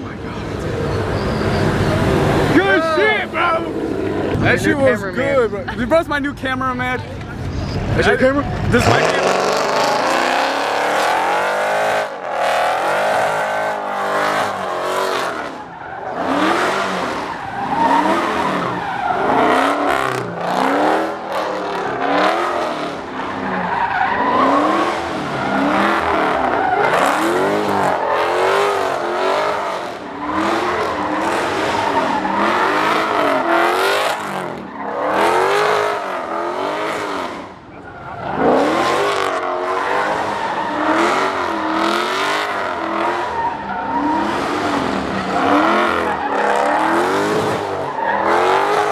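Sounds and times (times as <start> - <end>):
car engine revving hard: 0.0 - 4.7, 7.6 - 48.9
tyres squealing: 0.0 - 5.2, 7.1 - 48.9.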